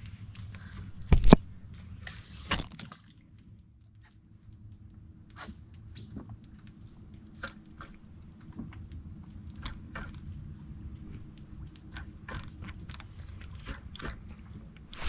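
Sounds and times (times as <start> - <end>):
faint small clicks and ticks: 0.0 - 15.0
low steady rumble: 0.0 - 15.0.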